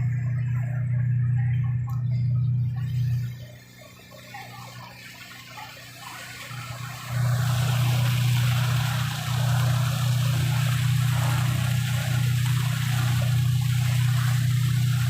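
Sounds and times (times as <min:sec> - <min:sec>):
ferry engine humming: 0:00.0 - 0:15.0.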